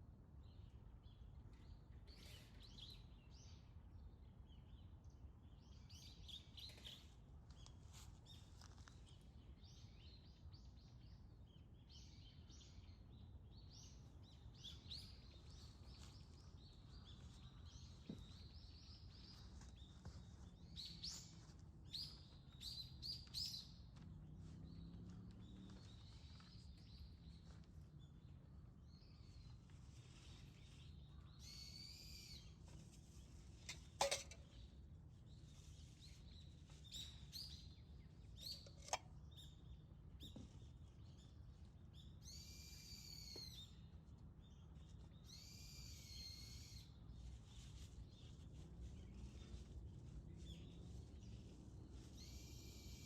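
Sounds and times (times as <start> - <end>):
small birds chirping: 4.5 - 53.0.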